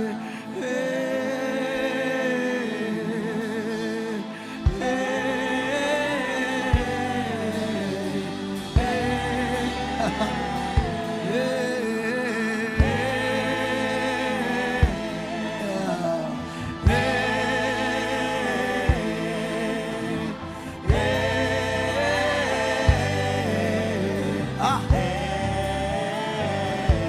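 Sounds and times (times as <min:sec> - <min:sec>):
slow gospel singing: 0:00.0 - 0:27.0.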